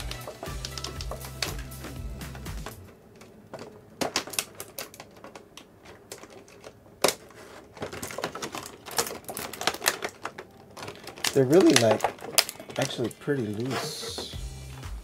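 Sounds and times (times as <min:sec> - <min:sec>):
plastic packaging crackling: 0:00.0 - 0:01.7, 0:02.9 - 0:14.4
plastic snapping: 0:00.0 - 0:01.8, 0:02.6 - 0:14.2.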